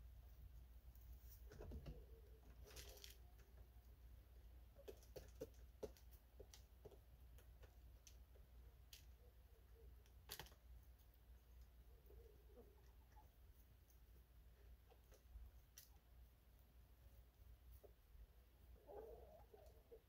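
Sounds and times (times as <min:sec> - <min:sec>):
chickens pecking and scratching in straw: 0:00.4 - 0:20.0.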